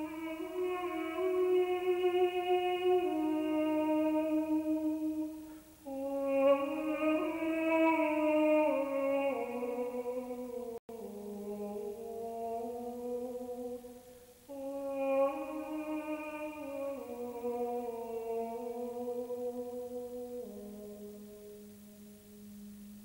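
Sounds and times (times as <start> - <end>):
slow vocal chant: 0.0 - 23.0.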